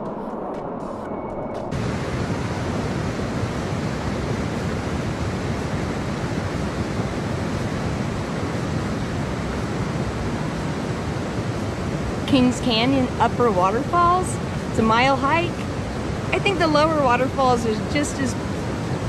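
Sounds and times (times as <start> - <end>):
creek rushing over waterfall: 1.8 - 19.0.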